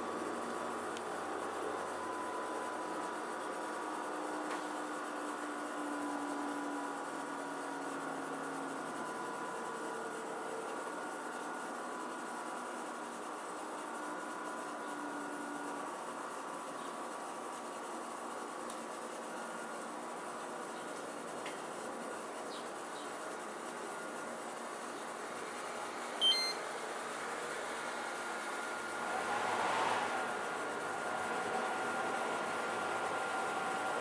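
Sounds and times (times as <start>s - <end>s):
air conditioner airflow hiss: 0.0s - 34.0s
faint hum and whine: 0.0s - 34.0s.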